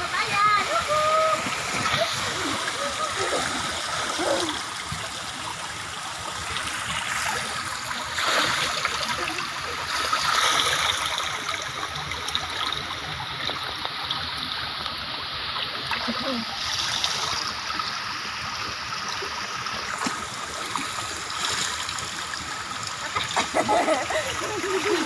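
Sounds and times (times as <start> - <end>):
water spilling into pool: 0.0 - 25.0
water splashing: 0.0 - 25.0.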